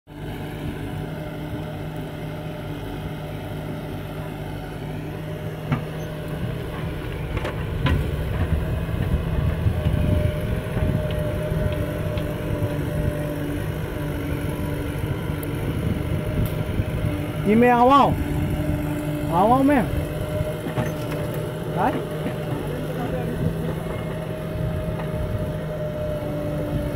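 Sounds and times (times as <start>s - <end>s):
diesel engines running: 0.1s - 26.9s.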